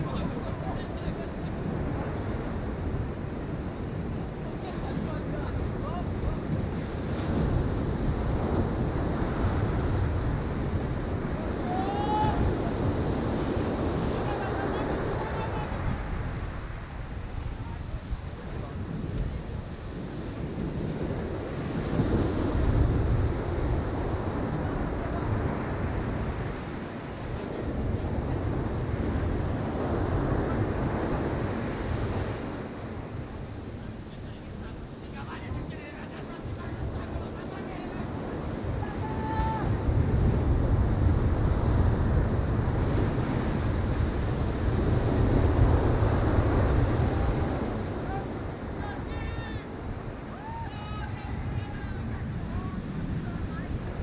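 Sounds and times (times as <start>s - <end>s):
surf washing onto sand: 0.0s - 54.0s
wind rumble on microphone: 0.0s - 54.0s.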